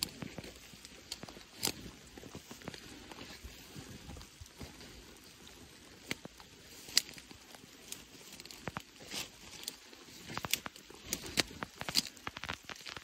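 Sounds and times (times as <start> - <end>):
stems snapping: 0.0 - 3.4, 5.9 - 13.0
footsteps through dry grass: 0.0 - 13.0.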